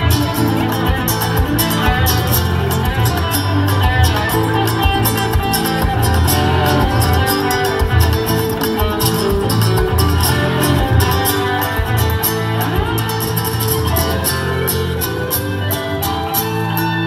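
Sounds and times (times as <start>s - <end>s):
acoustic guitar: 0.0s - 17.0s
bass line: 0.0s - 17.0s
electric guitar: 0.0s - 17.0s.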